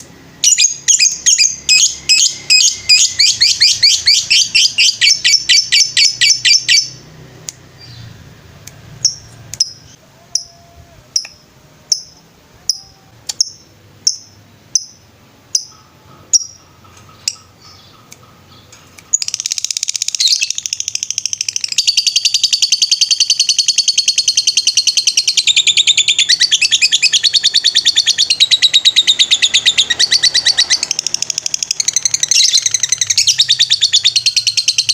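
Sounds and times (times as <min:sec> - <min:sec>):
lovebird chirping and trilling: 0:00.4 - 0:08.3, 0:08.9 - 0:34.9.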